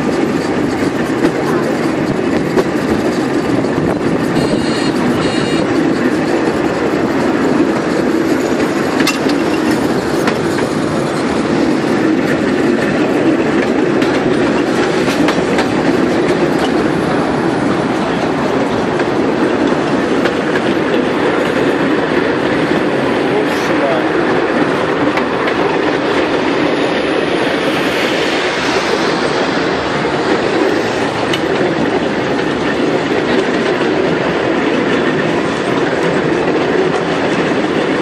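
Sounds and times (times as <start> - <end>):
rail joint clicks: 0.0 - 38.0
tram wheels rumbling on rails: 0.0 - 38.0.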